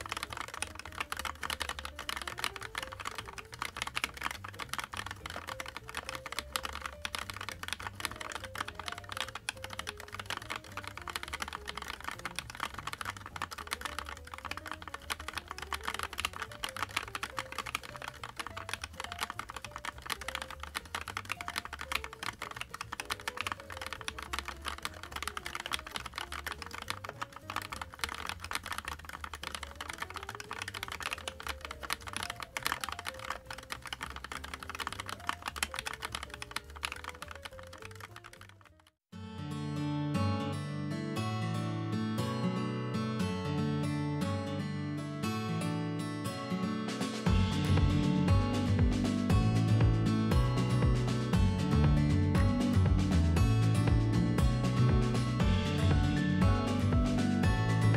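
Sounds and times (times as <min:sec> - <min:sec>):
mechanical keyboard typing: 0:00.0 - 0:39.0, 0:47.3 - 0:57.9
soft background music: 0:00.0 - 0:57.9.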